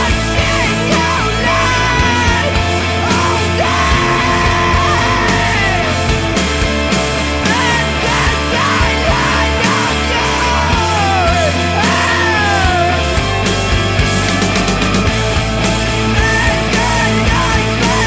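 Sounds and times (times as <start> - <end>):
loud rock music: 0.0 - 18.0.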